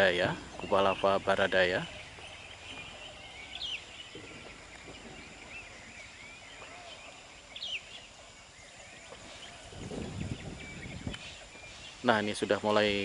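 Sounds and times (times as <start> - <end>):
birds chirping and whistling: 0.0 - 13.0
faint steady hiss: 0.0 - 13.0.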